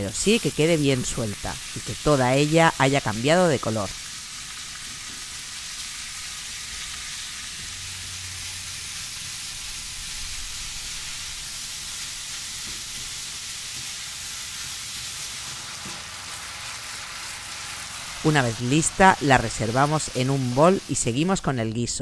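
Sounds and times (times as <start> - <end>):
meat sizzling in a frying pan: 0.0 - 21.6.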